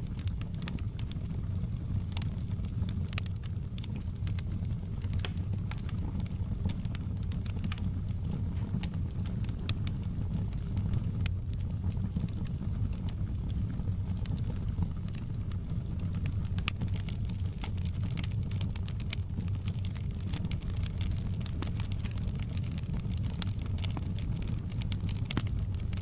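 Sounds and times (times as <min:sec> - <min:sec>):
fire crackling and popping: 0:00.0 - 0:26.0
rumble of fireplace flames: 0:00.0 - 0:26.0.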